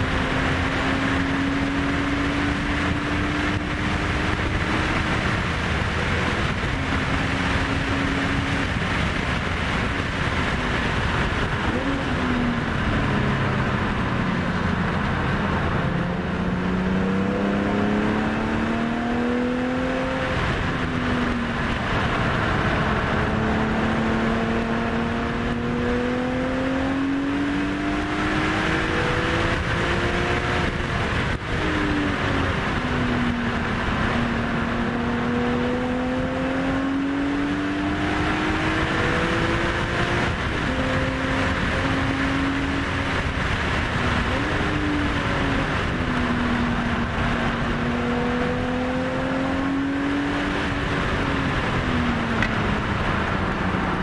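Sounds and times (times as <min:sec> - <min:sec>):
car engine accelerating: 0:00.0 - 0:54.0
wind noise: 0:00.0 - 0:54.0.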